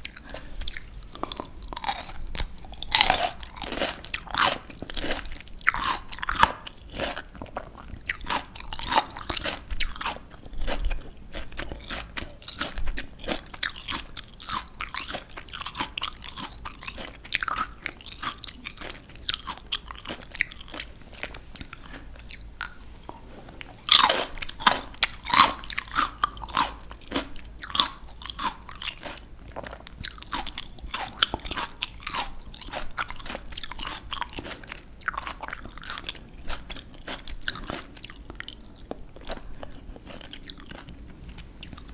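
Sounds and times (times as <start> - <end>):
crunchy vegetable bites and chewing: 0.0 - 41.9.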